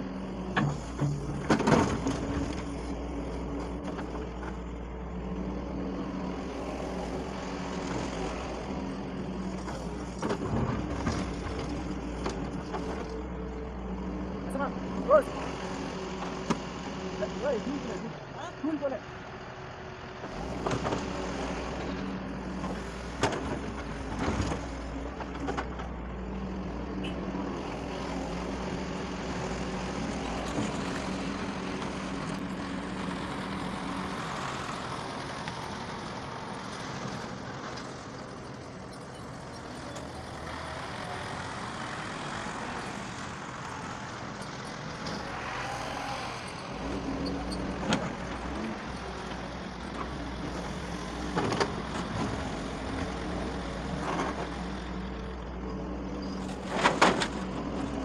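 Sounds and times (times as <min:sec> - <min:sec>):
excavator digging soil: 0:00.0 - 0:18.9, 0:20.2 - 0:58.0.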